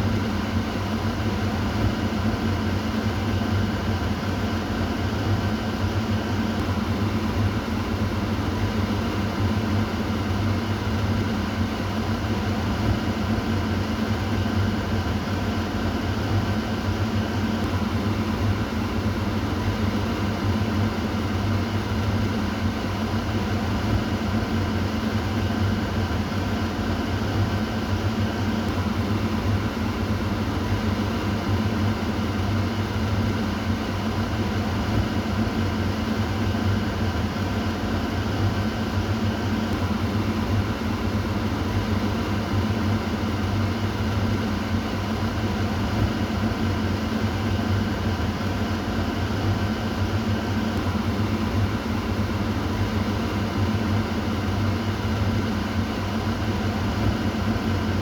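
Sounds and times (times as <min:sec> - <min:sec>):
kitchen exhaust fan running: 0:00.0 - 0:58.0.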